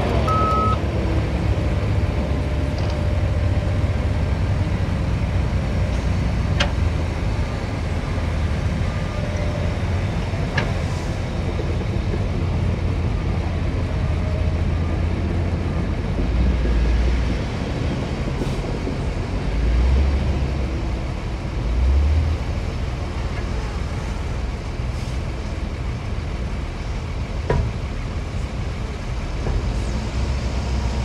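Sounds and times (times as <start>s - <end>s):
heavy diesel machinery engine rumble: 0.0s - 31.0s.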